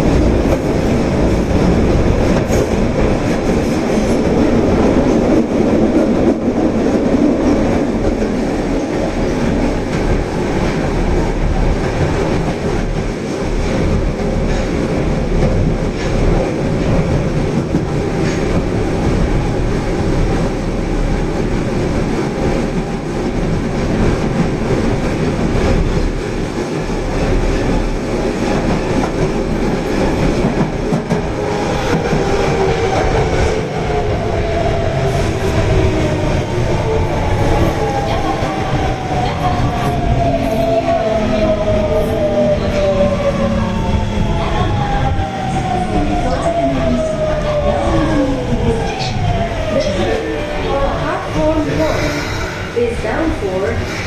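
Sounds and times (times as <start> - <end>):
subway train running: 0.0 - 54.0.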